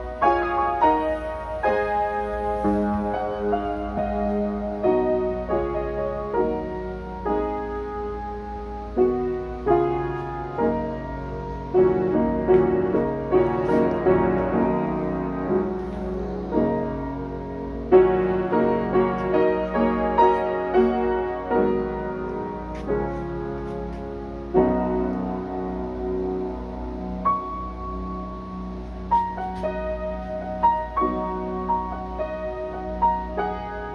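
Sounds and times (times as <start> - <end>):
grand piano playing chords: 0.0 - 33.9.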